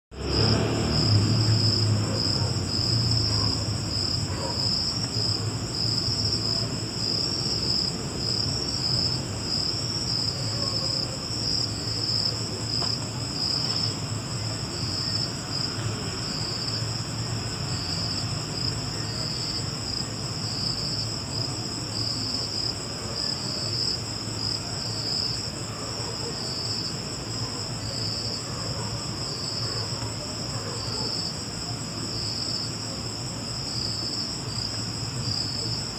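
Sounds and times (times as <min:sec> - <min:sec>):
crickets chirping: 0:00.2 - 0:35.9
high insect hum: 0:00.2 - 0:35.9.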